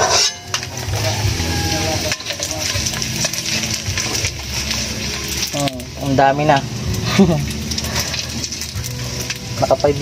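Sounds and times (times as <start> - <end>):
oil sizzling in a wok: 0.0 - 10.0.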